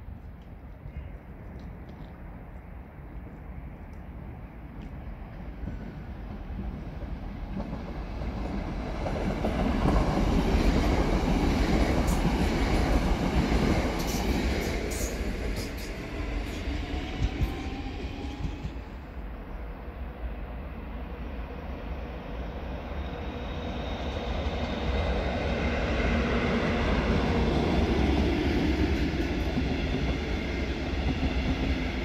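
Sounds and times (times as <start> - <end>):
train wheels rumbling: 0.0 - 20.2, 22.1 - 32.0.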